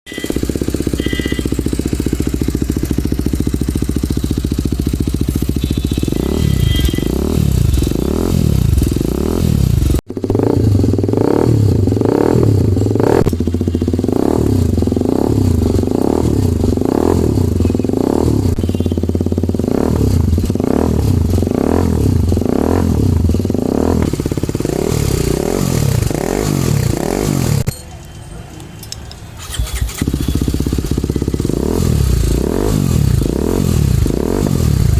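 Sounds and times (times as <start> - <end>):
motorcycle engine idling and revving: 0.1 - 28.2, 28.8 - 34.9.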